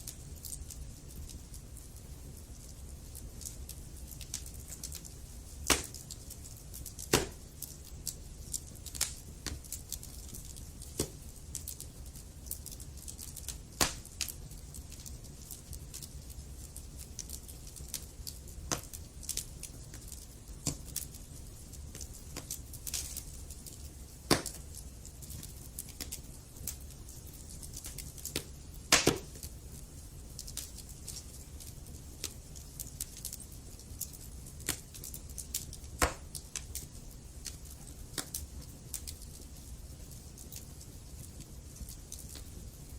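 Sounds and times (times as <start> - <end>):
fire crackles and pops: 0.0 - 42.9
low rumble of flame: 0.0 - 42.9.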